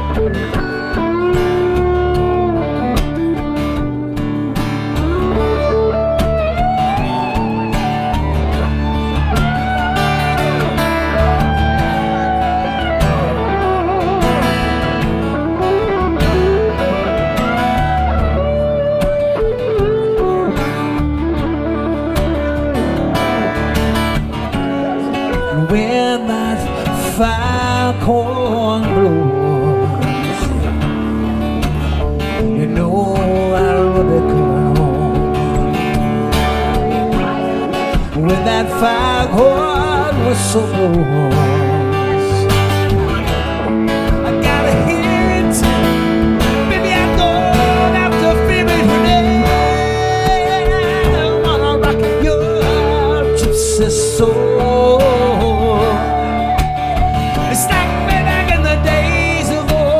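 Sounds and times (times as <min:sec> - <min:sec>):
electric guitar solo: 0:00.0 - 0:59.9
strummed acoustic guitar: 0:00.0 - 0:59.9.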